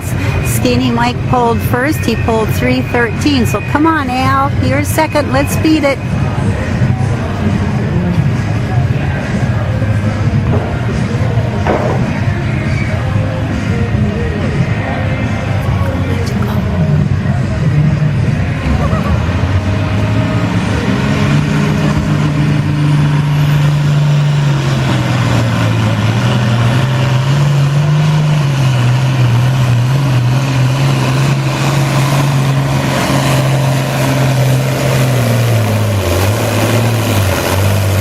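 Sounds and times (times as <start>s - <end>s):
tractor engine under load: 0.0s - 38.0s.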